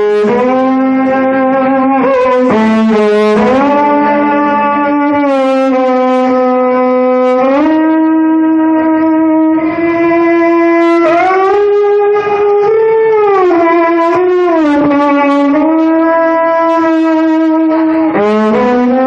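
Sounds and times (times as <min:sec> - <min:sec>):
wind instrument long sliding notes: 0:00.0 - 0:19.0.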